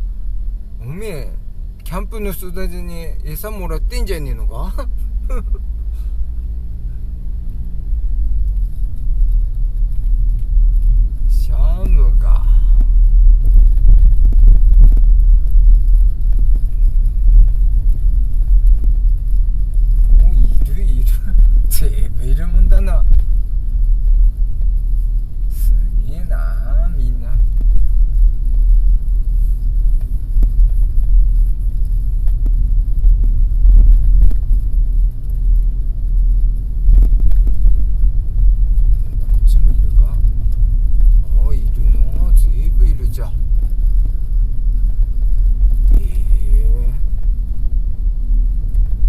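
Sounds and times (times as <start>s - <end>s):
car engine low rumble: 0.0s - 49.0s.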